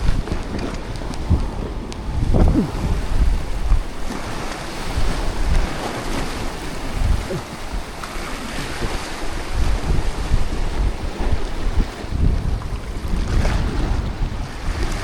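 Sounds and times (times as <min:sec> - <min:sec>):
sea waves: 0:00.0 - 0:15.0
wind gusting on microphone: 0:00.0 - 0:15.0.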